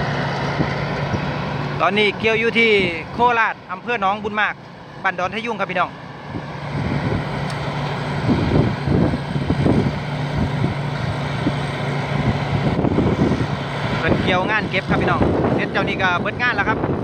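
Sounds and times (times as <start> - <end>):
cutting and threshing machinery: 0.0 - 17.0
diesel engine drone: 0.0 - 17.0.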